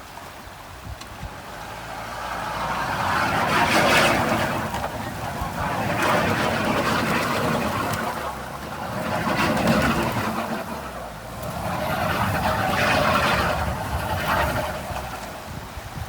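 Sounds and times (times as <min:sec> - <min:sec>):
off-road engine revving: 0:01.1 - 0:16.0.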